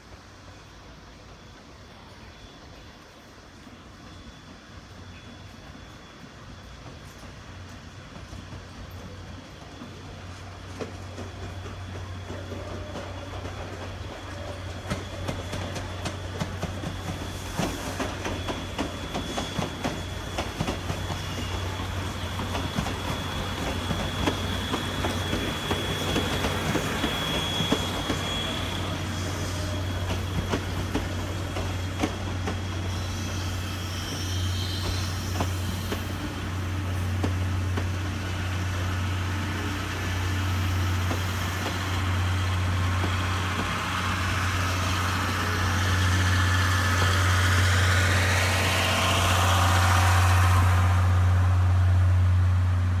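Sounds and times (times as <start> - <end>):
hiss: 0.0 - 53.0
idling rail engine hum: 0.0 - 53.0
high squeal: 3.7 - 52.7.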